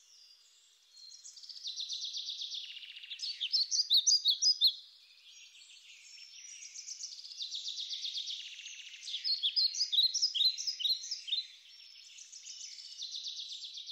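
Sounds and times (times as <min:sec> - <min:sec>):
songbirds chirping and trilling: 0:00.0 - 0:13.9.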